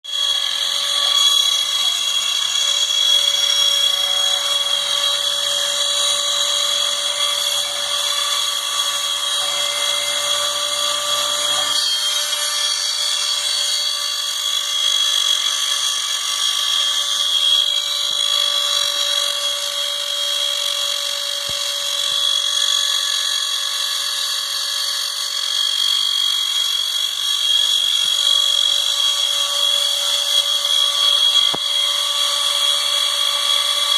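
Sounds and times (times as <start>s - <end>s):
stepper motors whining: 0.0s - 33.9s.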